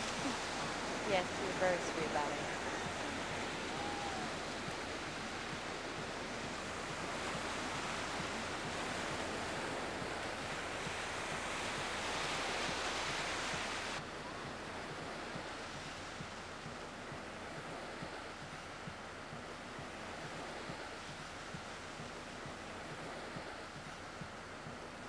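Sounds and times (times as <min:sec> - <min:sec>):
ocean surf on beach: 0:00.0 - 0:25.0
wind buffeting microphone: 0:00.0 - 0:25.0.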